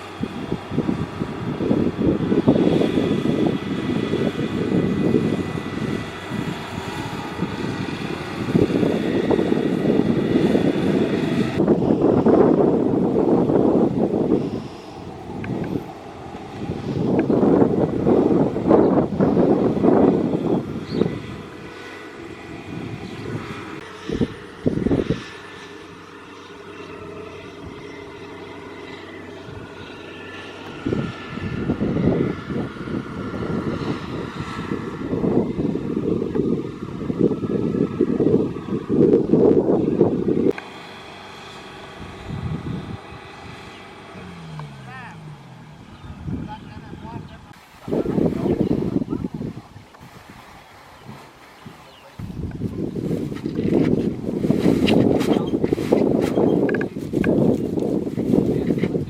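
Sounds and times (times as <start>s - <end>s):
combine harvester running: 0.0s - 49.1s
faint high whine: 0.0s - 49.1s
low rumbles: 0.0s - 50.2s, 52.2s - 59.0s.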